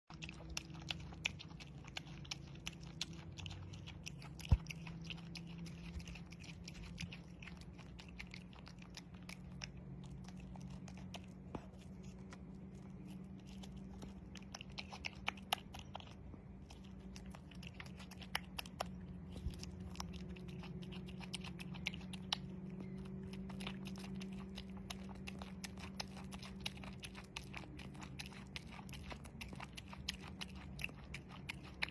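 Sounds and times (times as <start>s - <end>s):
animal chewing: 0.0s - 31.9s
steady low hum: 0.0s - 31.9s.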